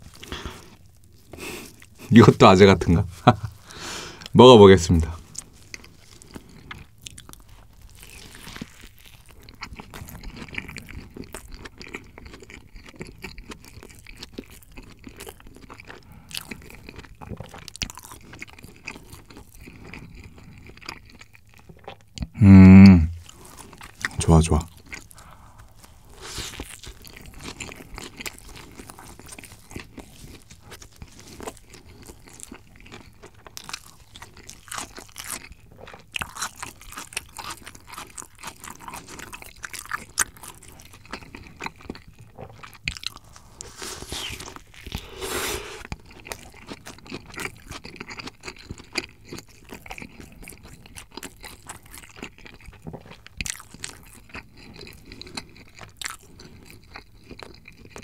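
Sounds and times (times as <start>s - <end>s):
chewing with soft crunching: 0.0s - 2.2s, 5.0s - 22.4s, 23.1s - 58.0s.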